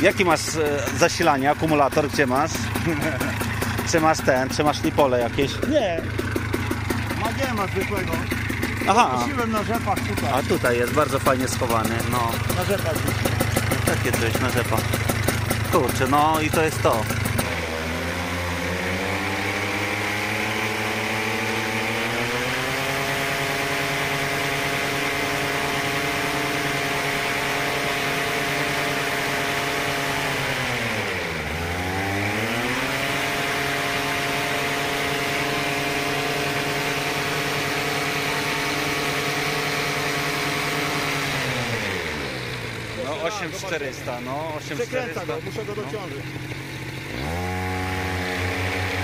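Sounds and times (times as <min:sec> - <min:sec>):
two-stroke paramotor engine revving: 0:00.0 - 0:49.0.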